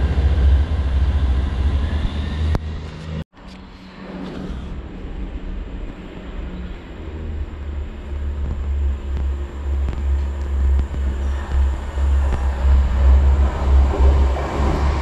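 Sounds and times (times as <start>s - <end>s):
rushing noise: 0.0s - 3.2s, 3.8s - 15.0s
train deep rumble: 0.0s - 15.0s.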